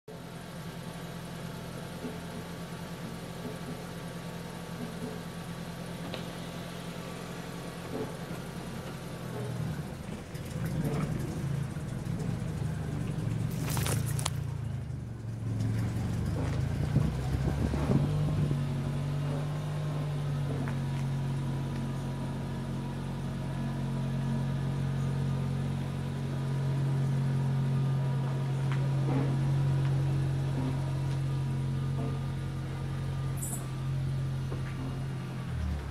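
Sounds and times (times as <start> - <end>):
car engine idling: 0.1 - 35.9.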